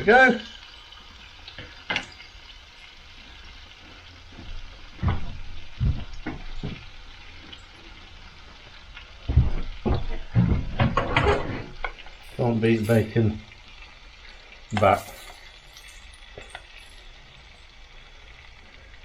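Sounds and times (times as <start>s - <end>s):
bacon sizzling in a frying pan: 0.0s - 19.0s.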